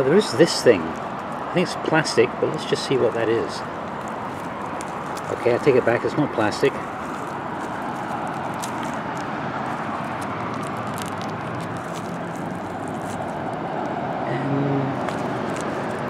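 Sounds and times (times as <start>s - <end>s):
distant road traffic: 0.0s - 16.0s
gloved hand rubbing soil: 0.6s - 13.6s, 15.0s - 16.0s.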